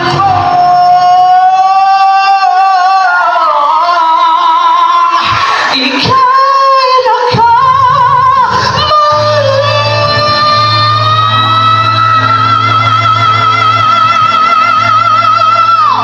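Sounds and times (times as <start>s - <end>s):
backing track with steady bass: 0.0s - 16.0s
woman singing with vibrato: 0.0s - 16.0s.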